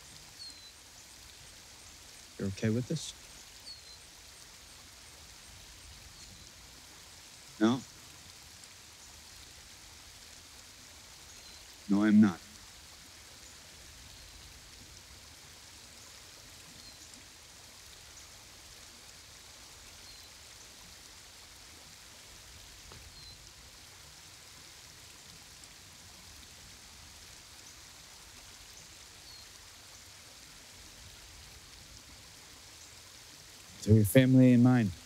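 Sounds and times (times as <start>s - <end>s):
stream trickling: 0.0s - 35.0s.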